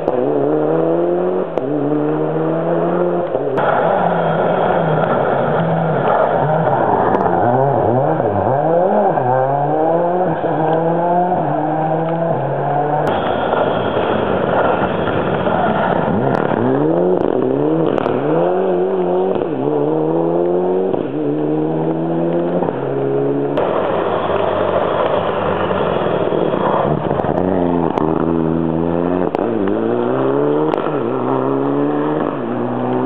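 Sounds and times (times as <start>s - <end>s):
racing car engine shifting gears: 0.0s - 33.0s.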